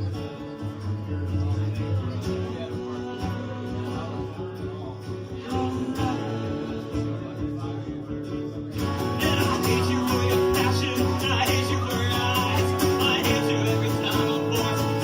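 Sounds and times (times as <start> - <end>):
acoustic guitar playing: 0.0 - 15.0
person singing: 2.2 - 8.2, 8.8 - 15.0.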